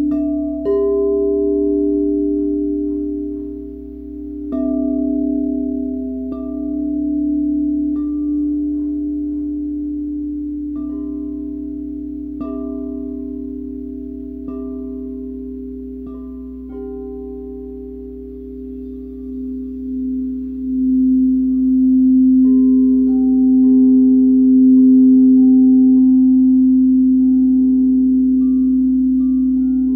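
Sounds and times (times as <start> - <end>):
singing bowls ringing: 0.0 - 29.9.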